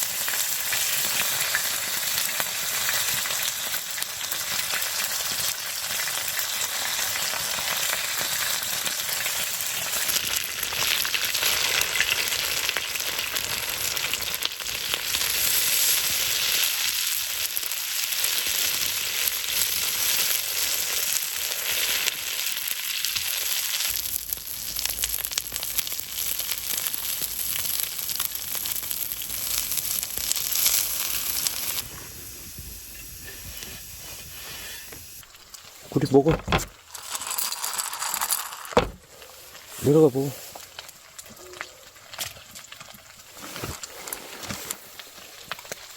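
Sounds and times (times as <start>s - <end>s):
food sizzling in a hot pan: 0.0s - 35.8s, 36.7s - 41.2s.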